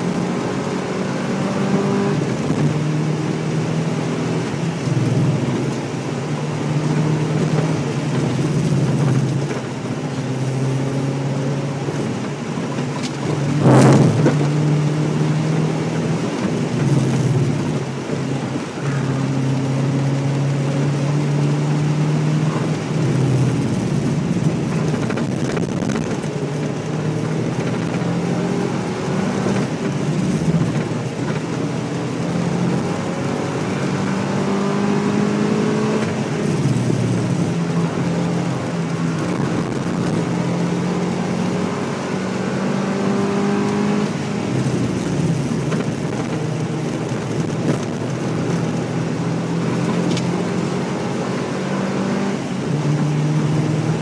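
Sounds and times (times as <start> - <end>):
car engine accelerating: 0.0 - 54.0
road and wind noise: 0.0 - 54.0.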